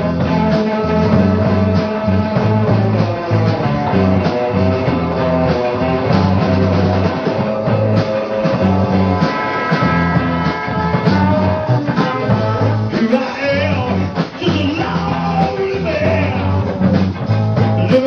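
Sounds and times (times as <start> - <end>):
bass guitar: 0.0 - 18.0
drum kit: 0.0 - 18.0
electric guitar: 0.0 - 18.0.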